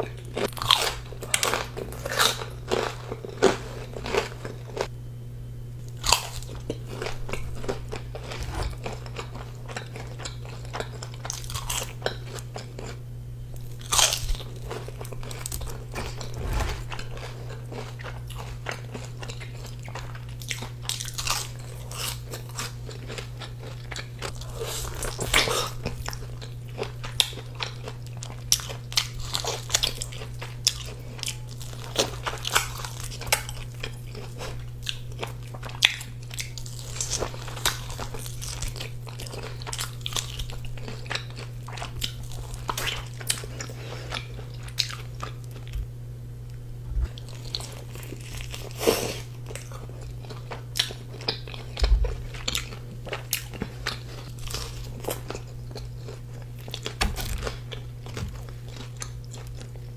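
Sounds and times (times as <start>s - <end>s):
crunching crispy fried food: 0.0s - 4.9s, 5.8s - 45.8s, 47.0s - 59.9s
steady low hum: 0.0s - 59.9s.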